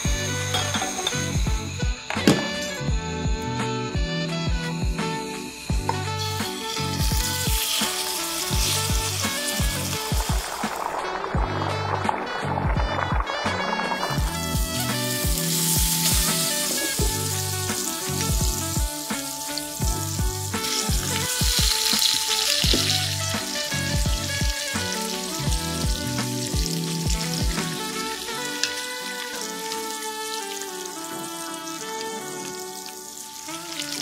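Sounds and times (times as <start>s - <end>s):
fish sizzling in a frying pan: 0.0s - 2.9s, 3.6s - 12.6s, 13.3s - 34.0s
background music: 0.0s - 34.0s.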